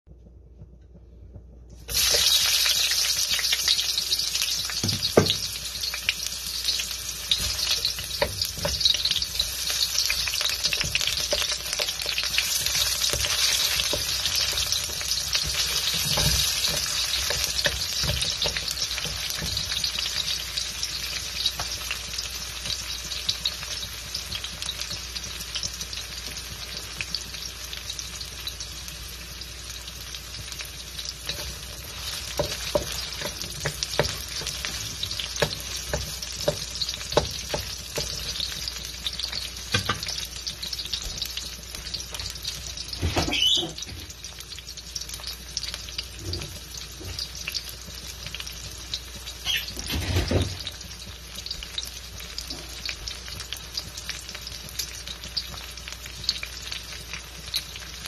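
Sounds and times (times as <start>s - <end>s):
onions sizzling in hot oil: 1.8s - 58.0s.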